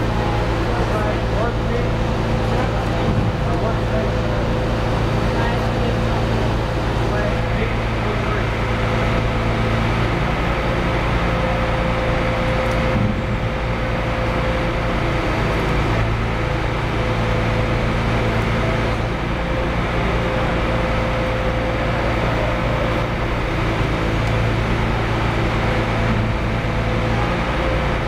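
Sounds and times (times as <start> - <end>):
machinery and ventilation hum: 0.0 - 28.0.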